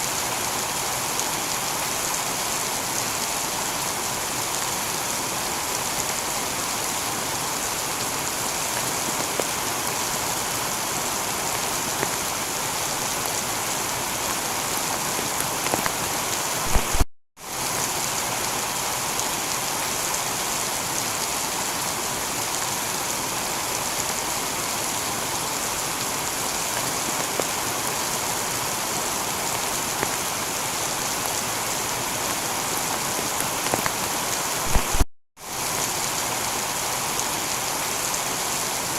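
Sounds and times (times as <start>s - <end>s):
heavy rain on a tiled roof: 0.0s - 38.9s.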